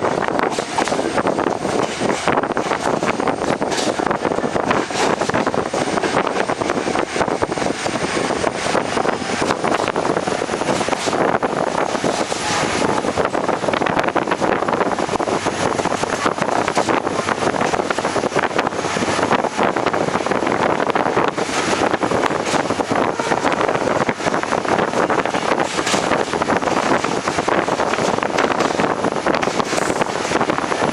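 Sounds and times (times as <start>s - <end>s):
wind rushing past train: 0.0s - 30.9s.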